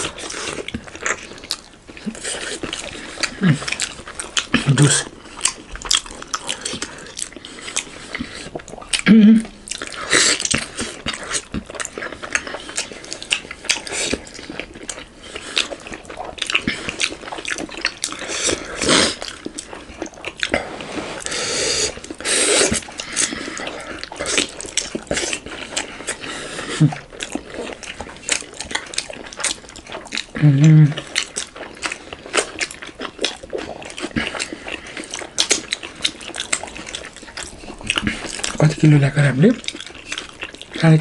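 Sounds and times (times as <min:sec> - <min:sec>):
chewing: 0:00.0 - 0:41.0.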